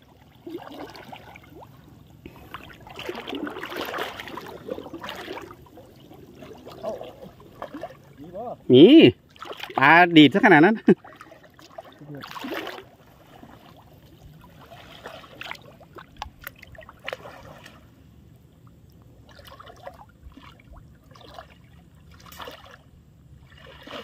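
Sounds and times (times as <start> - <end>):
shallow water trickling and splashing: 0.0 - 24.0.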